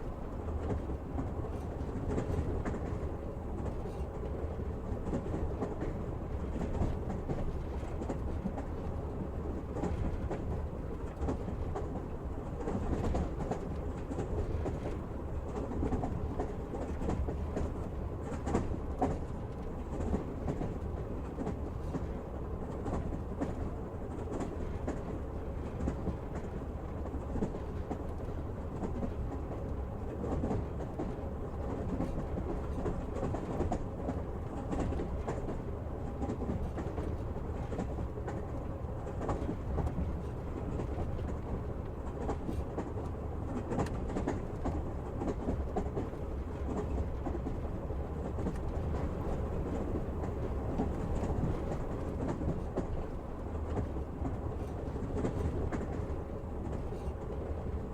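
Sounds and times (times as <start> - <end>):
train rumble inside carriage: 0.0 - 57.9.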